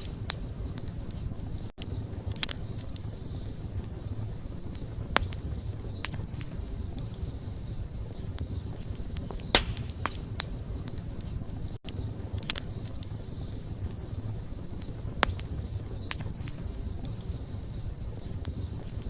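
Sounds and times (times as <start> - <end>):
campfire crackling with sharp pops: 0.0 - 19.0.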